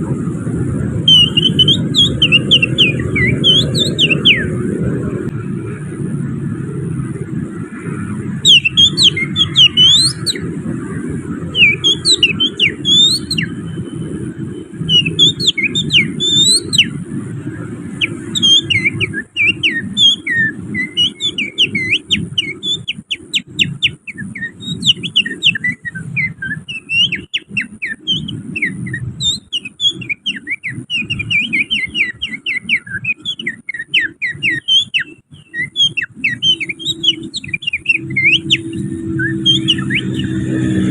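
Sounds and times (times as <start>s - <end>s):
low background rumble: 0.0s - 40.9s
finger whistling birdsong: 1.0s - 4.6s, 8.4s - 17.0s, 17.8s - 40.9s.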